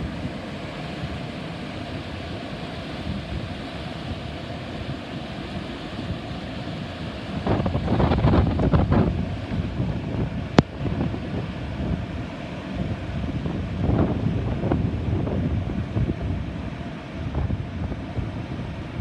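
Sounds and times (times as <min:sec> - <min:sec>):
wind buffeting microphone: 0:03.0 - 0:19.0.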